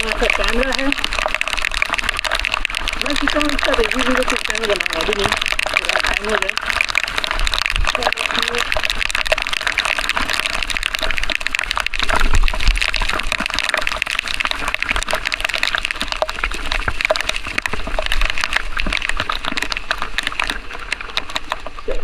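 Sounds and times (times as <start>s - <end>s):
heavy rain pattering: 0.0s - 22.0s.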